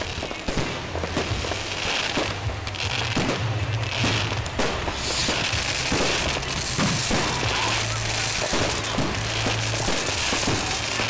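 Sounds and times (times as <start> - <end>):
continuous background noise: 0.0 - 11.0
fireworks bangs and crackles: 0.0 - 11.0.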